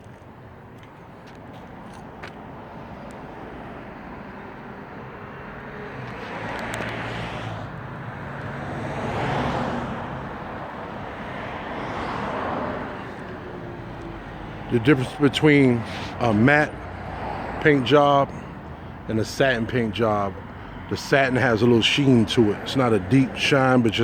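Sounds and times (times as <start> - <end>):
vehicles passing: 0.0 - 24.0.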